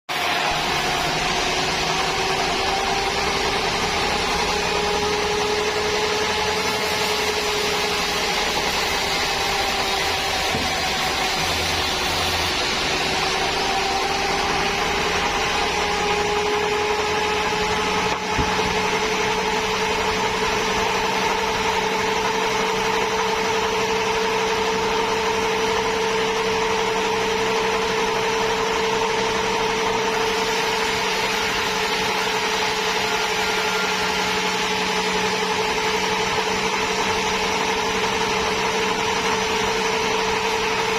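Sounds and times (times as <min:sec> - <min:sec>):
sawmill saw whining: 0:00.1 - 0:40.9.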